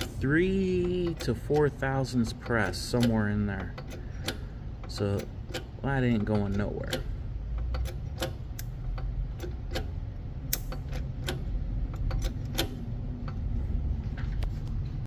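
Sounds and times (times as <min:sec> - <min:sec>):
sharp metallic clicks: 0:00.0 - 0:13.6
low steady hum: 0:00.0 - 0:15.0.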